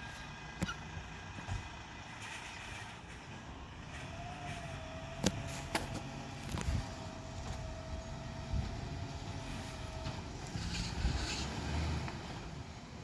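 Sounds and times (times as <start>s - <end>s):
hydraulic whine: 0.0s - 12.0s
garbage truck engine running: 0.0s - 13.0s.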